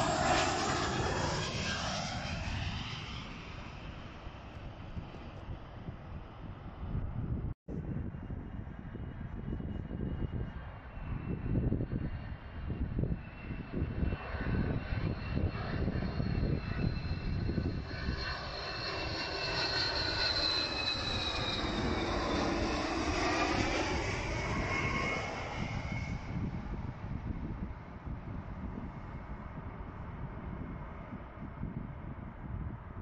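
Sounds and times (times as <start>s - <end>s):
jet plane passing overhead: 0.0s - 33.0s.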